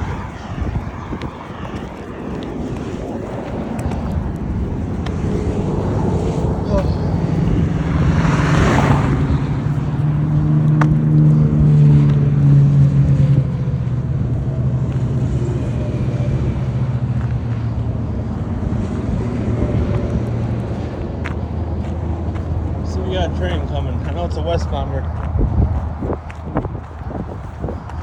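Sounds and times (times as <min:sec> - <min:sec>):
heavy vehicle engine drone: 0:00.0 - 0:28.0
traffic rumble: 0:00.0 - 0:28.0
tyre and wind noise: 0:00.0 - 0:28.0.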